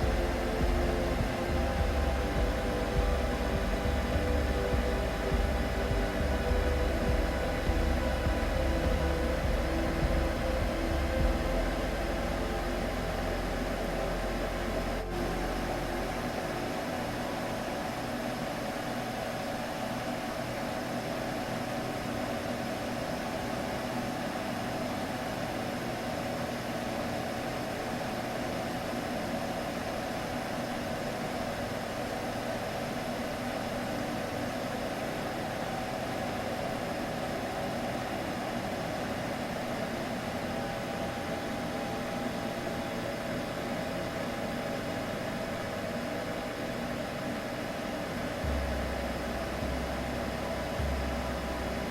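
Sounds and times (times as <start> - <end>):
constant hiss: 0.0 - 51.9
droning hum: 0.0 - 51.9.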